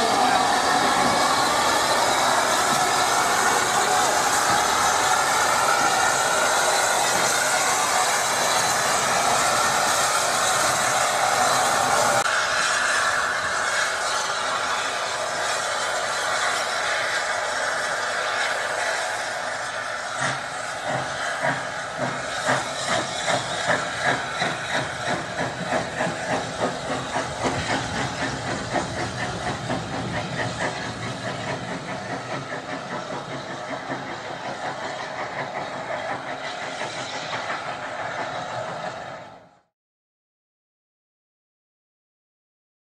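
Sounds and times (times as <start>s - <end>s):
steam hiss: 0.0s - 39.6s
steam locomotive chuffing: 0.0s - 39.7s.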